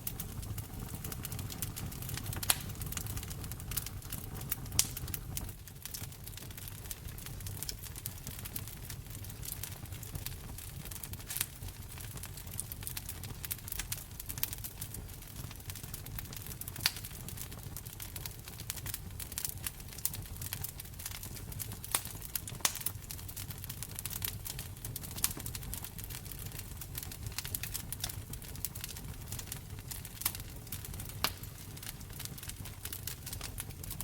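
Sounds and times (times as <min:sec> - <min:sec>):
low rumble of burning fire: 0:00.0 - 0:34.0
sharp snaps of fire: 0:00.0 - 0:34.0
wood fire crackling: 0:00.0 - 0:34.0.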